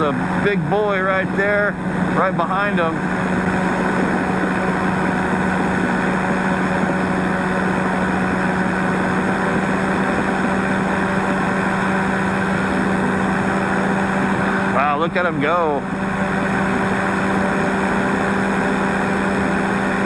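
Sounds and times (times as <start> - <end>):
engine and propeller drone: 0.0 - 20.0.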